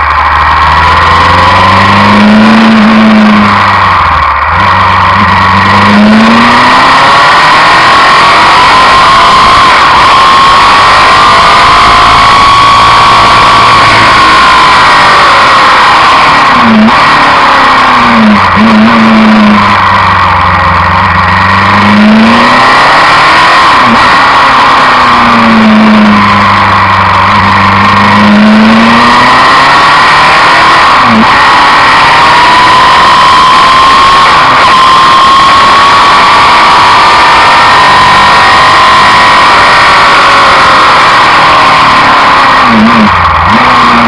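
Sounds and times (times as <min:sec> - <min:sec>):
motorcycle engine pulling hard: 0:00.0 - 0:44.0.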